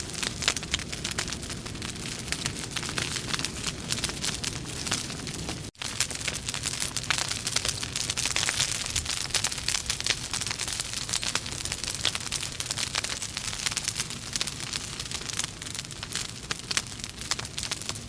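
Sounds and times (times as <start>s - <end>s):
logs crackling in a fireplace: 0.0s - 18.0s.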